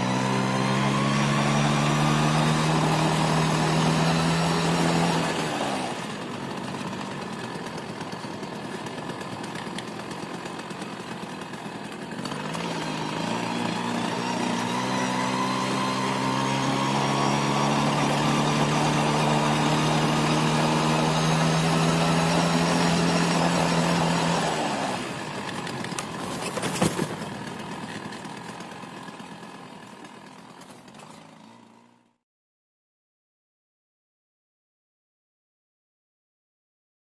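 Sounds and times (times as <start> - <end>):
small two-stroke engine running: 0.0 - 32.2.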